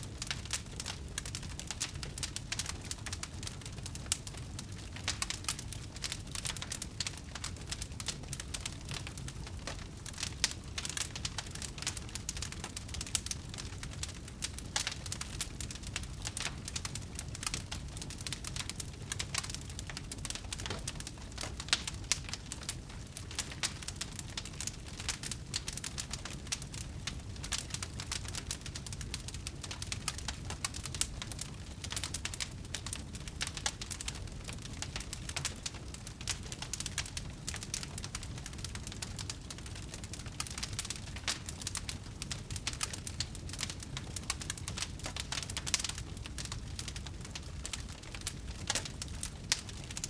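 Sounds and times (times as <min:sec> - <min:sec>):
low rumble of flames: 0:00.0 - 0:50.0
wood fire crackling: 0:00.0 - 0:50.0.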